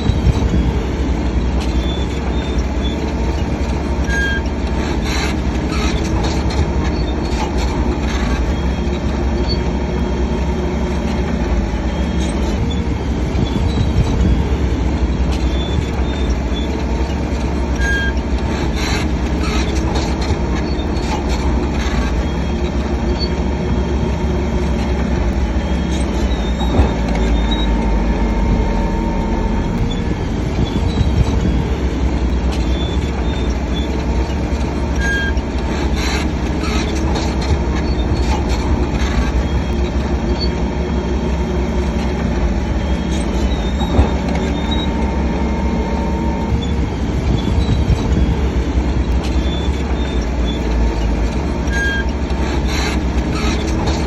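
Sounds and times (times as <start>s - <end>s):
bulldozer diesel engine under load: 0.0s - 54.0s
metallic squeaks from running gear: 1.4s - 10.1s, 10.8s - 54.0s.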